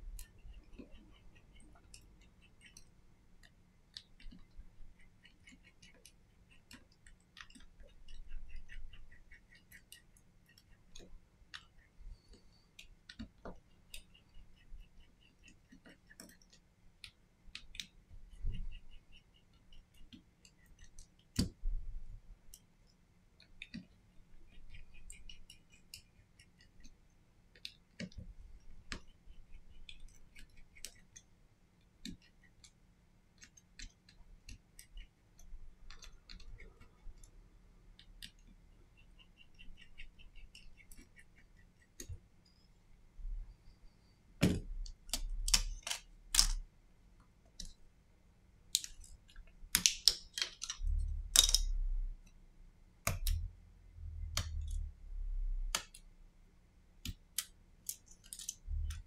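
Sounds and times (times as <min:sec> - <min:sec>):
small tools clicking on phone: 0:00.2 - 0:21.7, 0:22.5 - 0:31.3, 0:31.9 - 0:42.2, 0:44.8 - 0:46.6, 0:48.7 - 0:51.8, 0:53.0 - 0:53.5, 0:54.2 - 0:54.9, 0:57.0 - 0:59.0.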